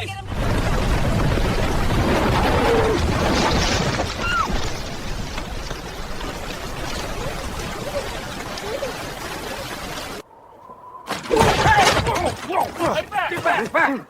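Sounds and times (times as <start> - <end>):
floodwater rushing: 0.2 - 13.8.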